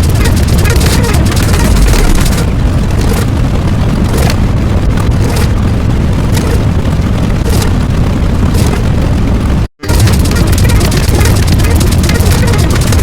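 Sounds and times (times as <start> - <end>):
booming rumble: 0.0 - 13.0
sharp cracks: 0.0 - 13.0.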